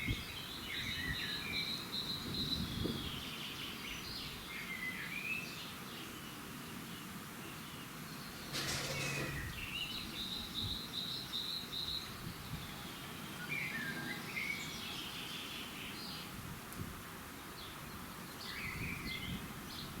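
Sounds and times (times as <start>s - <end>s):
birds singing and calling: 0.0s - 16.3s, 17.3s - 20.0s
outdoor background noise: 0.0s - 20.0s.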